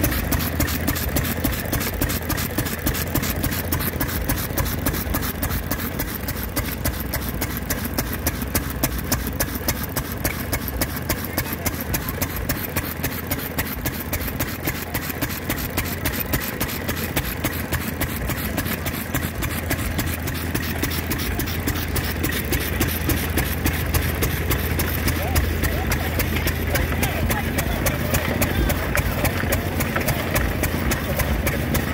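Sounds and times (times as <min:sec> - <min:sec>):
saw blade cutting log: 0:00.0 - 0:31.9
stationary gas engine running: 0:00.0 - 0:31.9.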